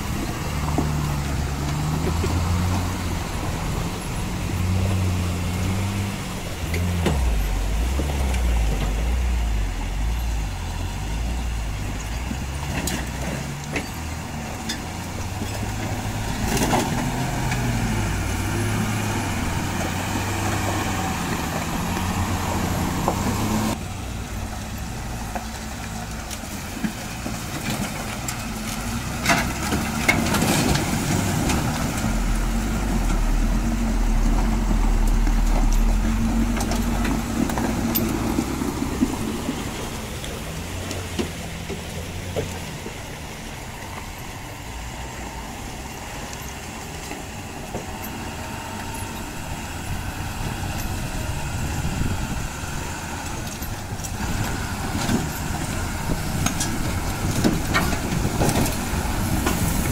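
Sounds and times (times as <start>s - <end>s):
truck diesel engine labouring: 0.0s - 59.9s.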